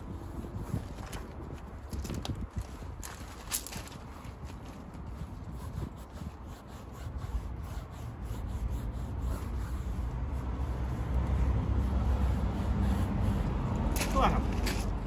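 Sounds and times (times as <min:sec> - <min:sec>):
applicator scrubbing tyre: 0:00.0 - 0:01.9, 0:04.0 - 0:15.0.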